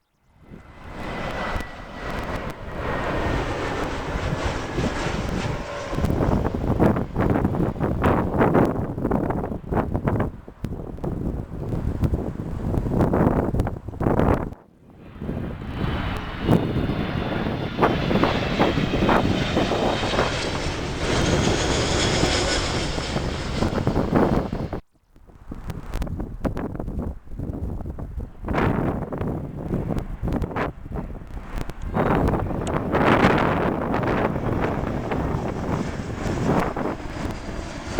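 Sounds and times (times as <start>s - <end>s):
jet engines rumbling: 0.1s - 24.8s, 27.8s - 37.9s
wind buffeting microphone: 0.1s - 37.9s.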